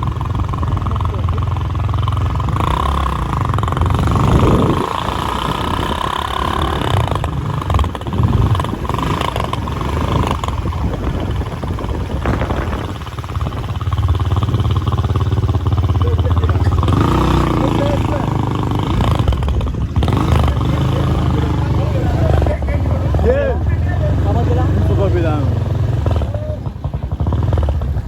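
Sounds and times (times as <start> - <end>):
motor engine rumbling: 0.0 - 28.0.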